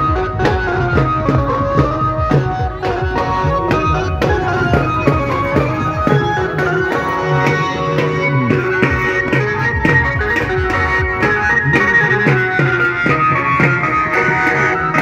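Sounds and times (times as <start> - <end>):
hand drum strokes: 0.0 - 15.0
held melodic line: 0.0 - 15.0.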